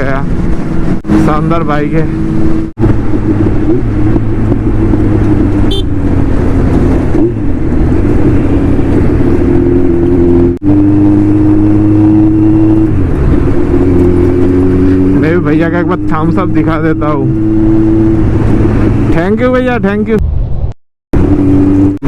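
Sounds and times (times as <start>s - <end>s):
motorcycle engine cruising: 0.0s - 20.2s, 21.2s - 22.0s.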